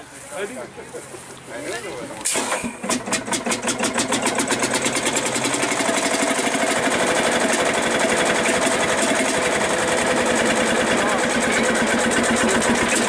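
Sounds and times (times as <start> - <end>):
tractor diesel engine running: 2.2 - 13.0.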